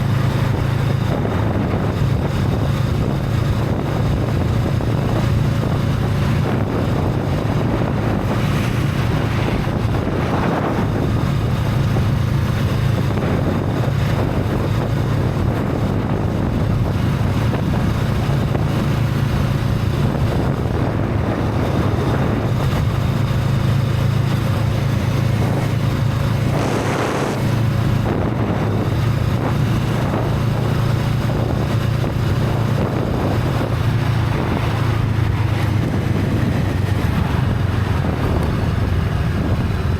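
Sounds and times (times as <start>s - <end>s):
motorcycle engine cruising: 0.0s - 39.9s
wind on microphone: 0.0s - 39.9s.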